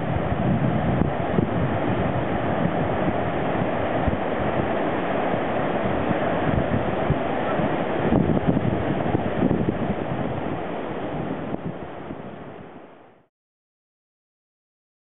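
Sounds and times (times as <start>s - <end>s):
wind buffeting microphone: 0.0s - 12.9s
surf breaking on beach: 0.0s - 13.2s.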